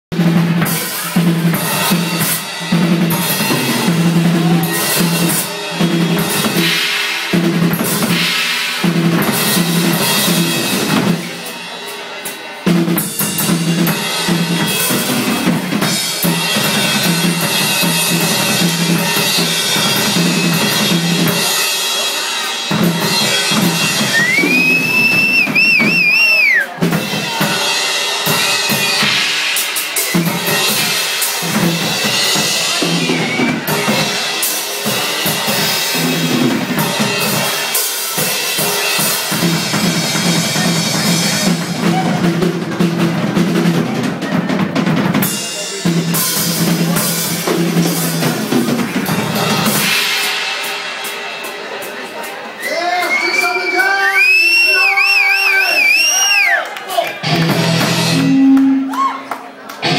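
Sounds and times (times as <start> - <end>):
drum kit hits: 0.1 - 52.5, 57.2 - 59.0
heavy metal band playing: 0.1 - 59.0.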